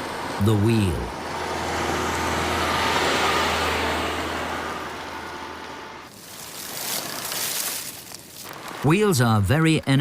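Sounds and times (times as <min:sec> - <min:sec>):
tyre and road rush: 0:00.0 - 0:10.0
vehicle engine hum: 0:00.0 - 0:10.0.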